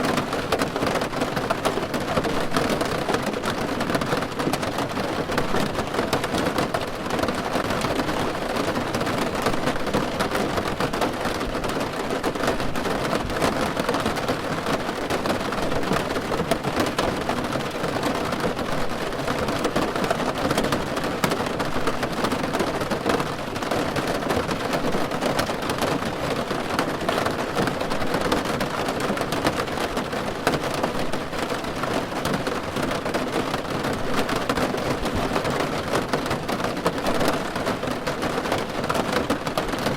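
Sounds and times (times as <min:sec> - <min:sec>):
rain patter on car roof: 0:00.0 - 0:39.9.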